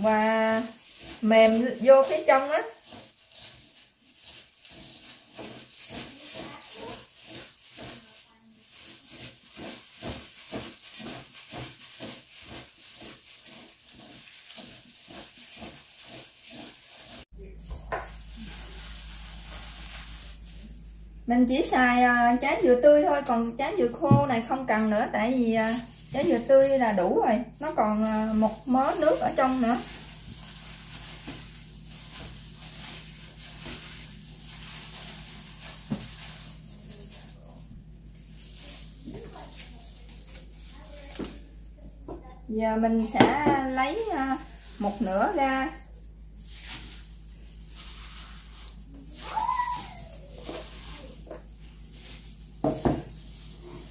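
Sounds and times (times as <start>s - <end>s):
rhythmic wet rustling: 0.0s - 53.9s.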